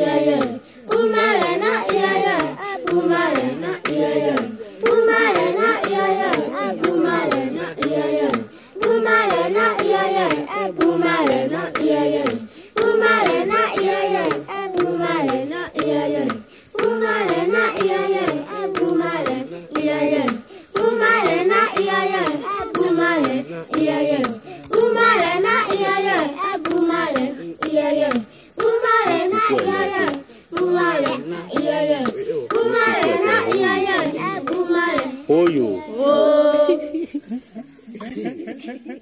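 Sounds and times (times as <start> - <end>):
group chanting: 0.0 - 37.0
hand clapping: 0.2 - 35.7.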